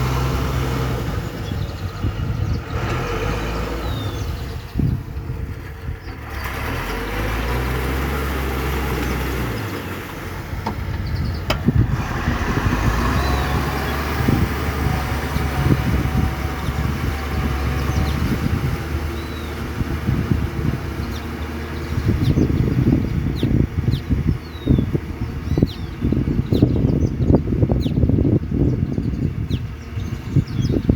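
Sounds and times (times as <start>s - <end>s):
farm machine engine running: 0.0s - 30.9s
wind buffeting microphone: 0.0s - 30.9s.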